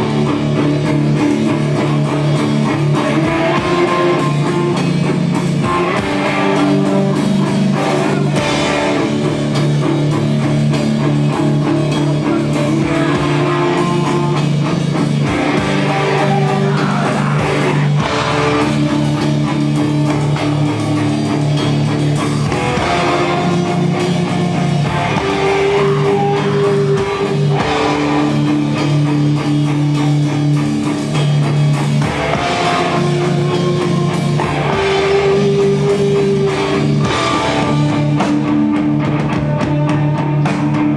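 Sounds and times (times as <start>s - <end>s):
drums: 0.0s - 40.9s
electric guitars playing chords: 0.0s - 40.9s.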